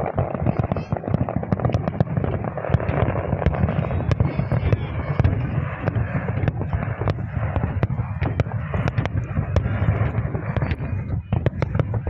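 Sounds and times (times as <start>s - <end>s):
continuous low rumble: 0.0s - 12.0s
fireworks bursting: 0.0s - 12.0s.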